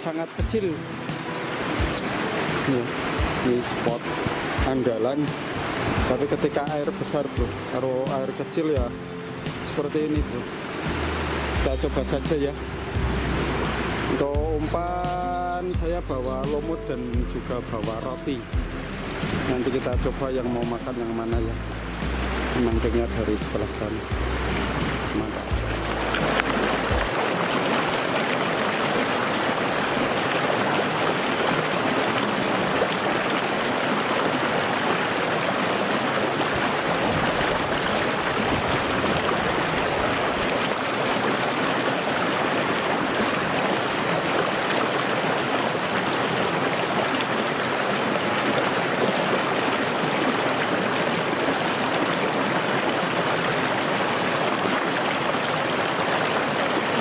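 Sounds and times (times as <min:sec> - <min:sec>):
water rushing over stones: 0:00.0 - 0:57.0.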